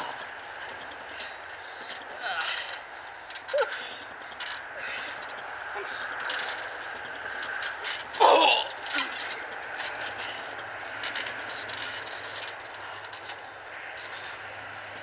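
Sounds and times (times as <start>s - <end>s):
trampoline springs creaking: 0.0s - 15.0s.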